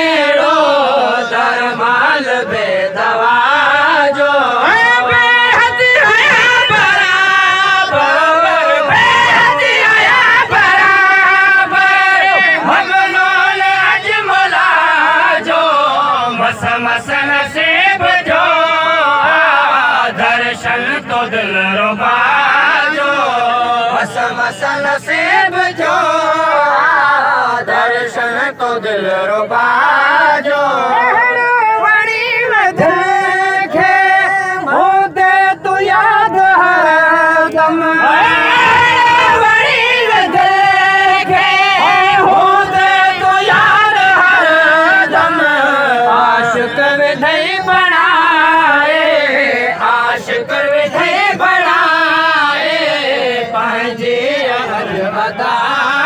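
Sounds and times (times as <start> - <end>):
men singing into microphones: 0.0 - 56.0.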